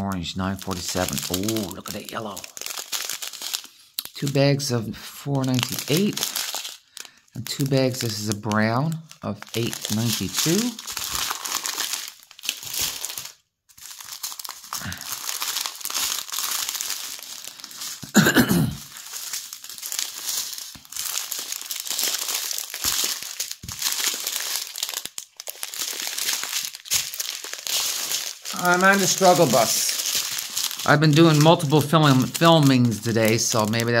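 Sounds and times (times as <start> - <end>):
plastic bags crinkling: 0.0 - 4.4, 5.3 - 34.0.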